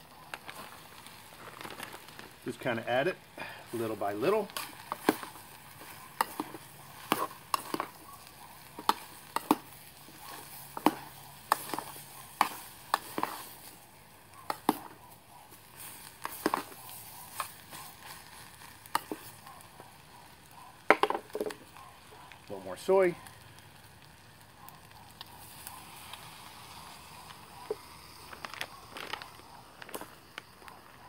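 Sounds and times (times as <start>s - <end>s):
food sizzling: 0.0s - 31.0s.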